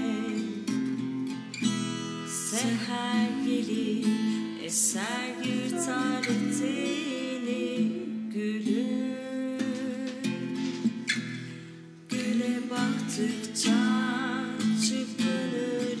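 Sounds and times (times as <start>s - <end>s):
woman singing: 0.0s - 0.8s, 2.3s - 10.7s, 12.1s - 16.0s
acoustic guitar: 0.0s - 16.0s.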